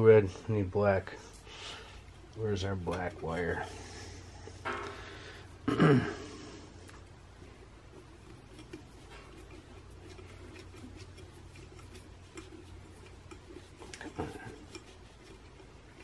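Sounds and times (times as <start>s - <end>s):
wires being handled: 1.2s - 5.6s, 6.8s - 16.0s.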